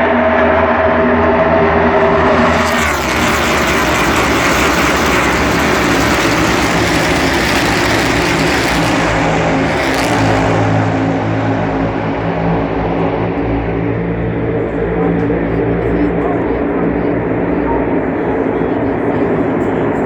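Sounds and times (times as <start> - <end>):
race car engines roaring past: 0.0 - 20.0.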